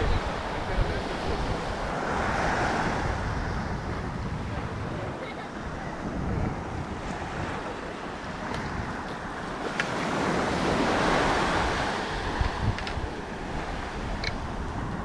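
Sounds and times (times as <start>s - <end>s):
ocean surf washing onto beach: 0.0s - 15.0s
wind rumbling on microphone: 0.0s - 15.0s.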